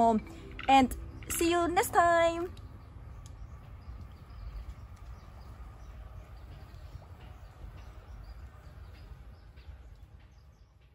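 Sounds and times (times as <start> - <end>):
bird chirps: 0.0 - 10.9
low outdoor rumble: 0.0 - 10.9.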